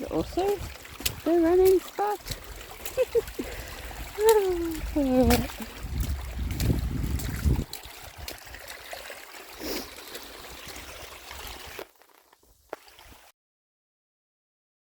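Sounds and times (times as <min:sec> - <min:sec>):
stream water flowing: 0:00.0 - 0:13.3.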